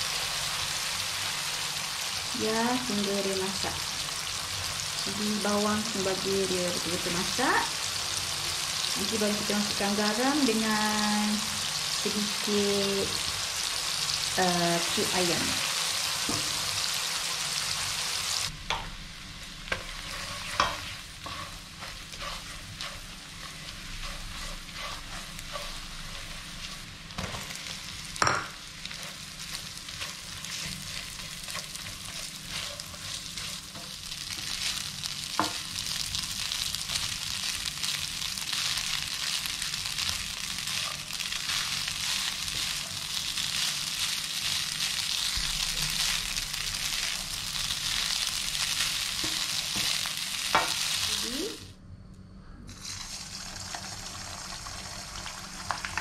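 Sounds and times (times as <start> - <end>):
frying hiss in a wok: 0.0 - 51.8, 52.7 - 56.0.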